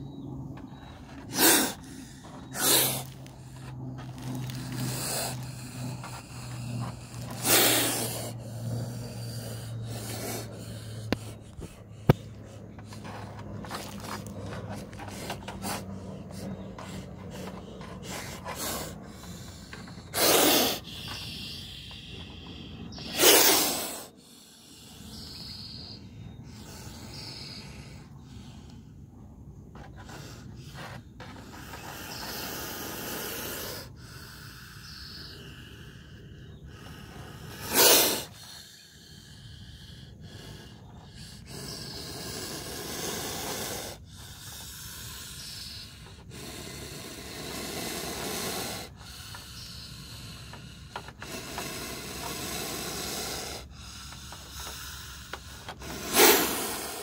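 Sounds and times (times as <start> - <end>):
snake hissing: 1.2 - 28.9, 30.0 - 57.0.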